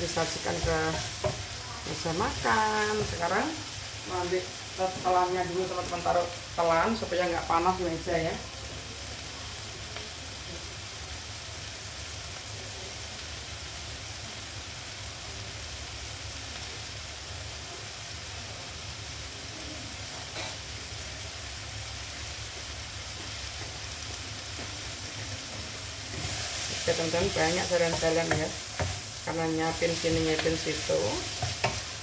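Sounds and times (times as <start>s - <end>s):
vegetables sizzling in a frying pan: 0.0s - 32.0s.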